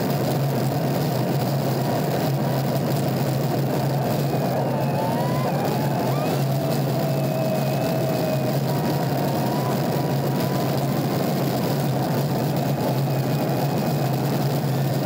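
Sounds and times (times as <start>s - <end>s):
road noise: 0.0s - 15.0s
wind rush: 0.1s - 15.0s
car engine cruising: 0.2s - 15.0s.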